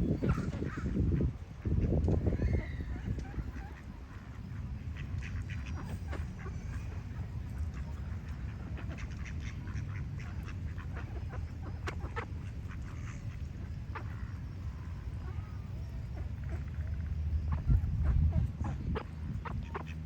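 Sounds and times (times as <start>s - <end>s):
ducks quacking: 0.0s - 20.0s
small birds chirping: 0.0s - 20.0s
steady low rumble: 0.0s - 20.0s.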